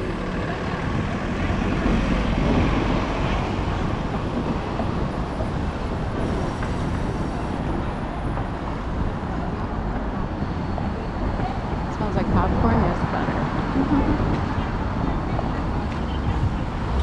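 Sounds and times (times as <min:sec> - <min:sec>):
rumble of passing vehicles: 0:00.0 - 0:17.0.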